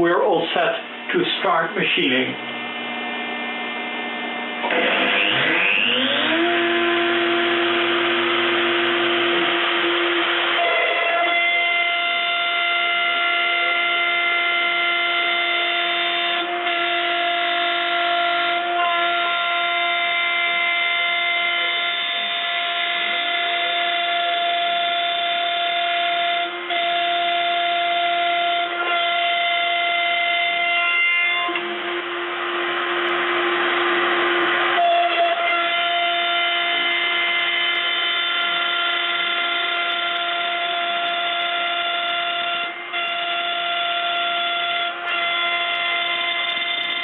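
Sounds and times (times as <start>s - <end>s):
milling machine spindle whine: 0.0s - 47.0s.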